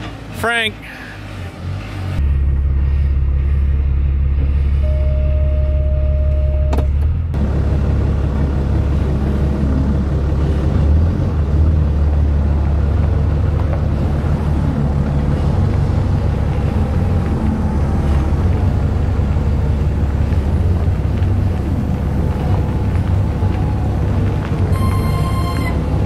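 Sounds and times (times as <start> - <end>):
forklift engine: 0.0 - 26.0
truck engine rumbling: 0.0 - 26.0.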